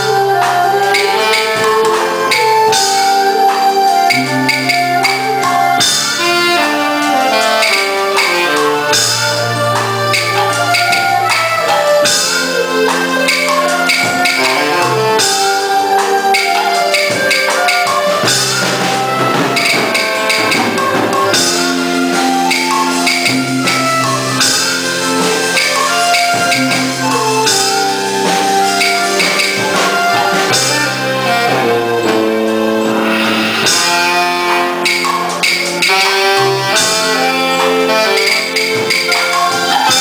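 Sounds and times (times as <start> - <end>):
drum and cymbal strokes: 0.0 - 40.0
electronic keyboard bass line: 0.0 - 40.0
erhu melody: 0.0 - 40.0
saxophone: 0.0 - 40.0.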